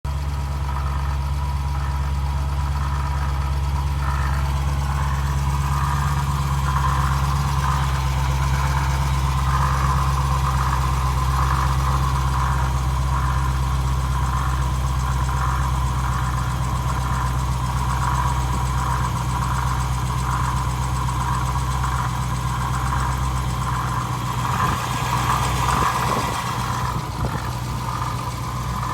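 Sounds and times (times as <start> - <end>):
car engine idling: 0.0 - 28.9
pulsing whine: 0.5 - 28.9.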